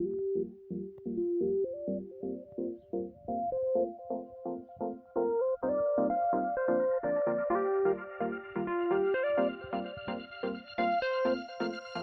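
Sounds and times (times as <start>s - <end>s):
chords over simple melody: 0.0s - 12.0s.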